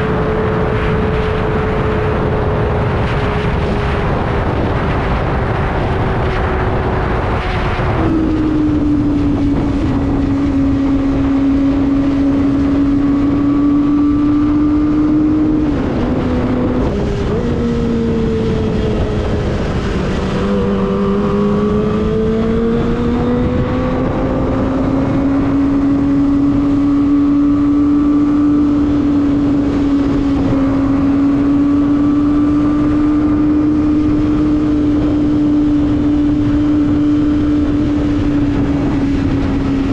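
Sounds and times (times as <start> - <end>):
motorcycle engine at high revs: 0.0 - 39.9
wind rush on microphone: 0.0 - 39.9.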